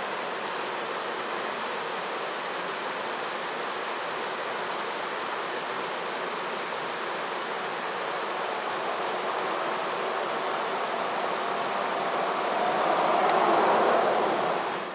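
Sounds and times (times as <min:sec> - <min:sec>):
mountain stream rushing: 0:00.0 - 0:14.9.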